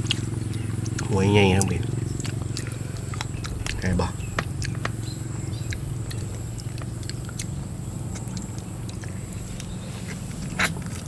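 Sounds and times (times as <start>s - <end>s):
chewing: 0.0s - 11.0s
mouth clicks: 0.0s - 11.0s
steady low hum: 0.0s - 11.0s.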